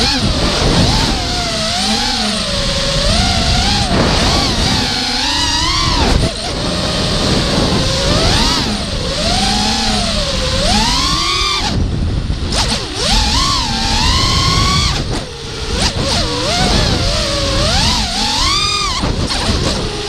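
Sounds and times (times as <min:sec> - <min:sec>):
drone motors whining: 0:00.0 - 0:20.0
wind rumble on camera: 0:00.0 - 0:20.0.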